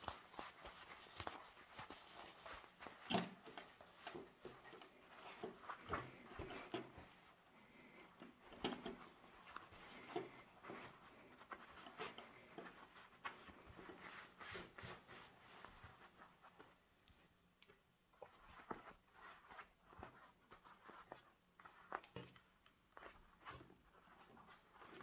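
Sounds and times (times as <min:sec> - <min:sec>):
fabric rustling: 0:00.0 - 0:25.0.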